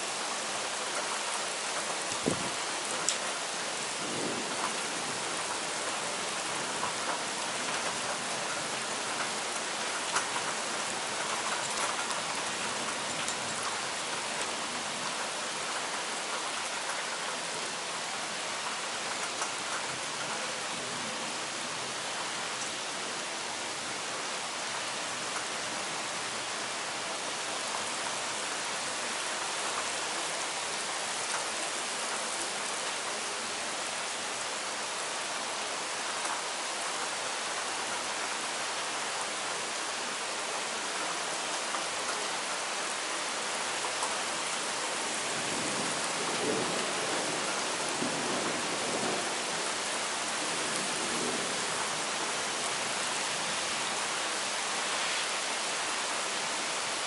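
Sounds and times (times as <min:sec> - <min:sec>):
heavy rain on pavement and trees: 0:00.0 - 0:57.0.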